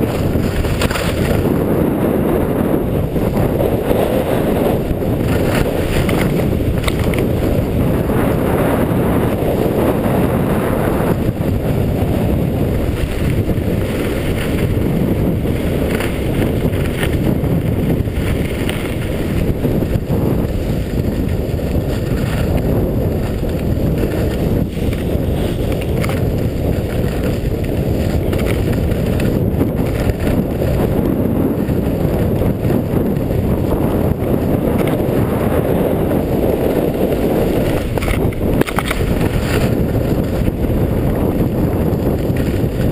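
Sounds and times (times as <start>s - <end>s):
skis scraping over snow: 0.0s - 42.9s
wind rumble on microphone: 0.0s - 42.9s.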